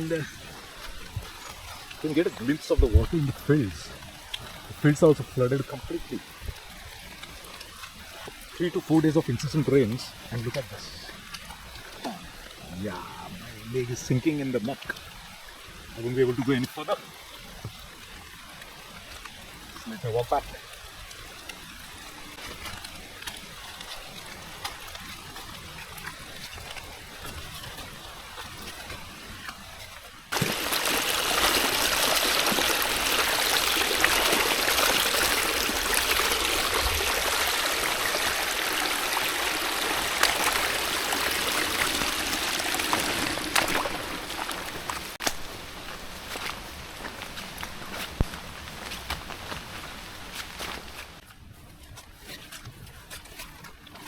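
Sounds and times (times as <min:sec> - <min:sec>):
water rushing: 0:00.0 - 0:51.2.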